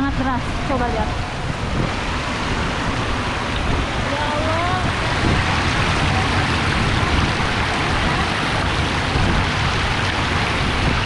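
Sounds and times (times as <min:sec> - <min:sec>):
rainwater runoff rushing: 0:00.0 - 0:11.0.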